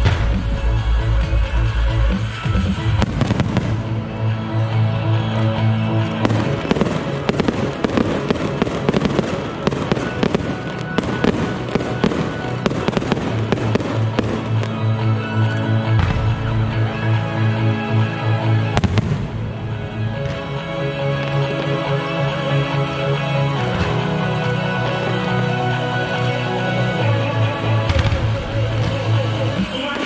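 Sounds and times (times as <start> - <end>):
fireworks bangs and crackles: 0.0 - 30.0
music with bass beat: 0.0 - 30.0.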